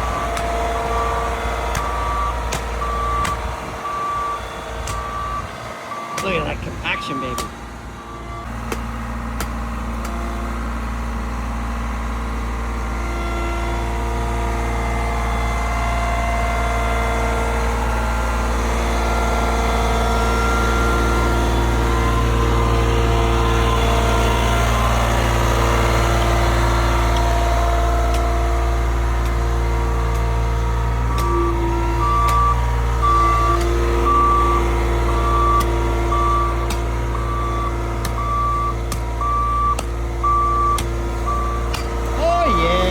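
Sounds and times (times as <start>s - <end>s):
diesel engine of paving machine: 0.0s - 42.9s.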